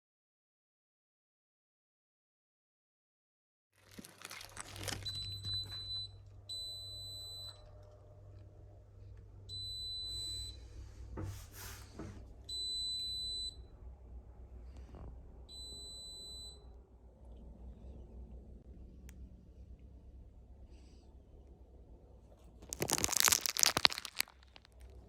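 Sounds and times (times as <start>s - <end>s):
low steady hum: 3.9s - 25.0s.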